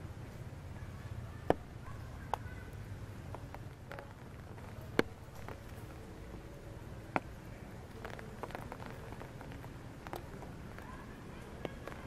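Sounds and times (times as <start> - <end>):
steady low background noise: 0.0 - 12.0
raindrops pattering on leaves: 1.4 - 12.0.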